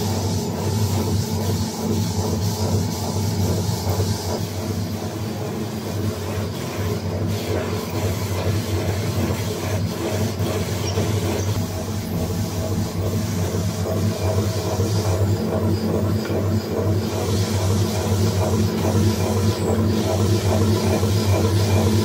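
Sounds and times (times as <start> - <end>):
paper shredder running: 0.0 - 22.0.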